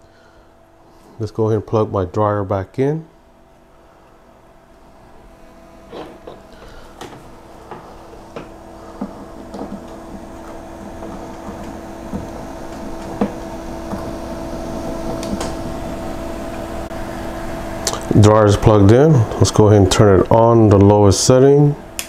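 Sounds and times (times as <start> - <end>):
fridge compressor humming: 0.0 - 22.0.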